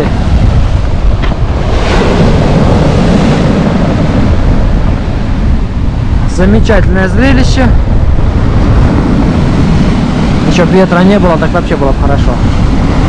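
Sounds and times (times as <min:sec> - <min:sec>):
stormy surf breaking on shore: 0:00.0 - 0:13.0
wind buffeting microphone: 0:00.0 - 0:13.0.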